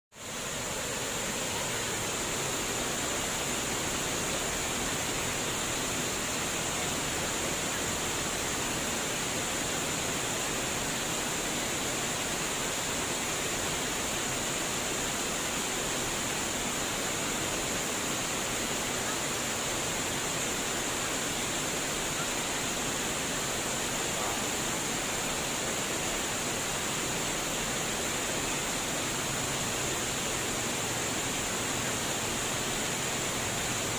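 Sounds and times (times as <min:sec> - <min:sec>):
water babbling and splashing: 0:00.2 - 0:33.9.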